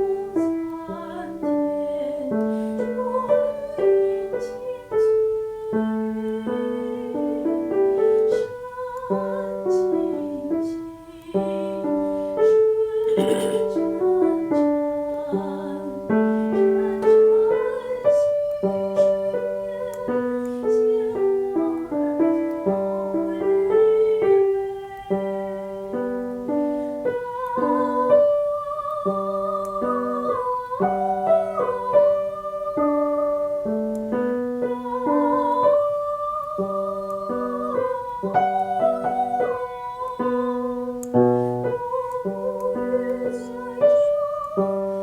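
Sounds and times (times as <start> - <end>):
piano accompaniment: 0.0 - 45.0
woman singing: 0.0 - 45.0.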